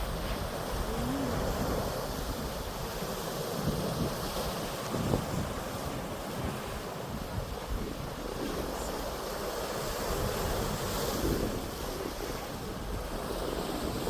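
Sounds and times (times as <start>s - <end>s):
sea waves washing ashore: 0.0s - 14.0s
wind buffeting microphone: 0.0s - 14.0s.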